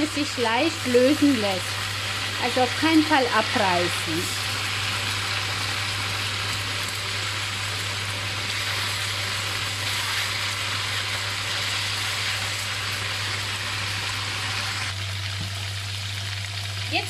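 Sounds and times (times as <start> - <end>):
beef sizzling in hot oil: 0.0 - 17.0.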